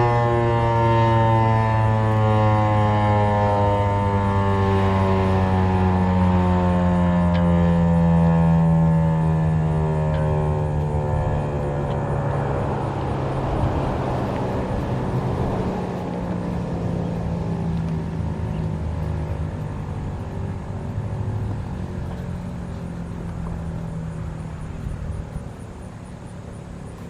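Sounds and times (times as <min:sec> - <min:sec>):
siren winding down: 0:00.0 - 0:24.6
steady low hum: 0:00.0 - 0:27.0.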